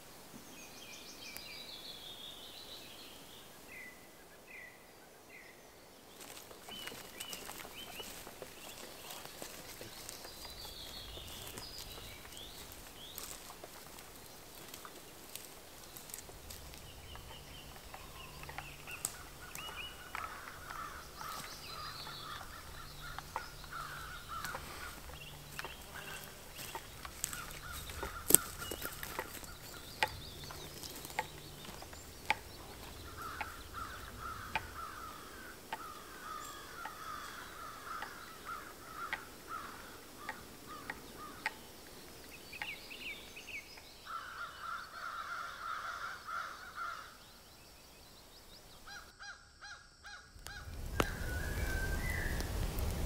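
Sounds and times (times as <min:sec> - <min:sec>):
rough repeated bird calls: 0:06.1 - 0:47.4, 0:48.2 - 0:53.0.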